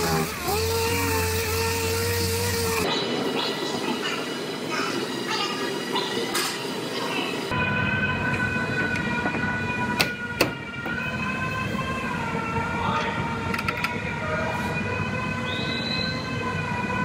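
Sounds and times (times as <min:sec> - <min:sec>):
whining background drone: 0:00.0 - 0:17.0.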